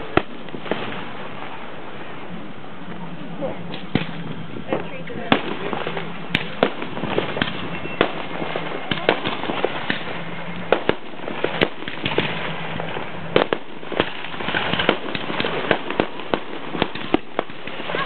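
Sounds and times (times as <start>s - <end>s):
fireworks bangs and pops: 0.0s - 18.0s
fireworks crackling: 0.0s - 18.0s.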